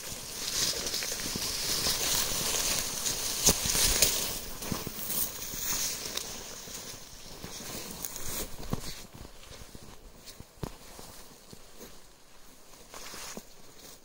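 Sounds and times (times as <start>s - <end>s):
footsteps through undergrowth: 0.0s - 14.0s
rustling: 0.0s - 14.0s.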